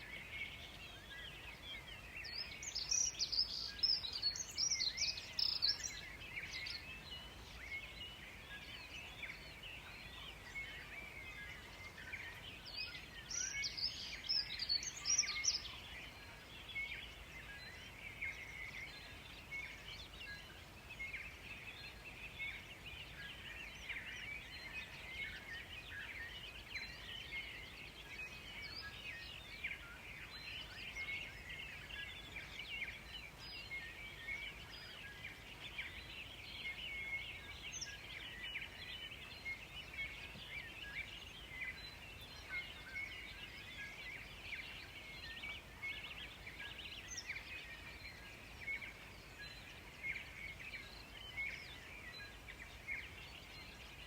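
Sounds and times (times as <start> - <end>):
chorus of bird chirps: 0.0 - 54.0
high bird twittering song: 0.0 - 54.0.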